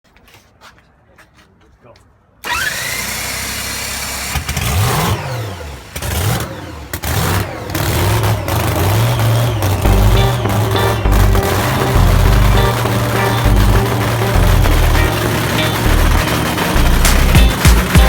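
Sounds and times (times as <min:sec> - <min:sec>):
drag racing engine revving: 0:02.5 - 0:18.0.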